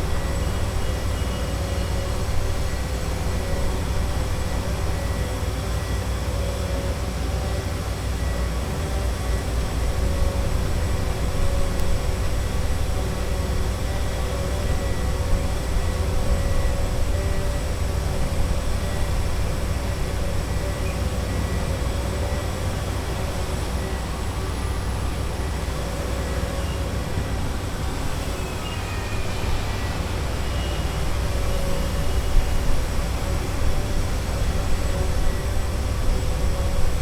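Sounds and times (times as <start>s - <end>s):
constant machine hum: 0.0s - 37.0s.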